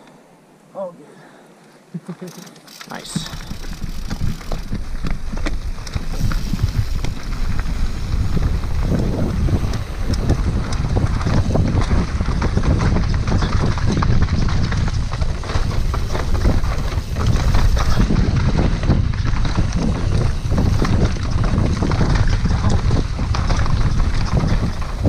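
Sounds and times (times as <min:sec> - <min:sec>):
bike clattering over bumps: 0:02.3 - 0:25.0
wind buffeting microphone: 0:02.9 - 0:25.0.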